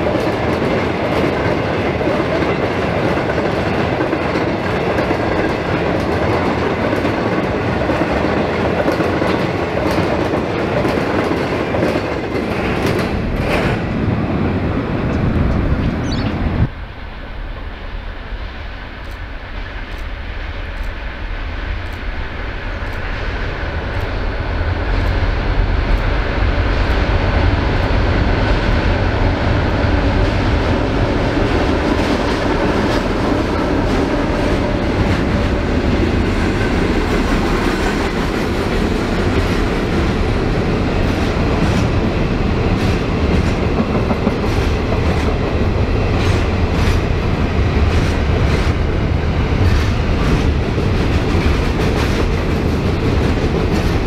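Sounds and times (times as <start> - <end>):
freight train rumbling: 0.0 - 54.0.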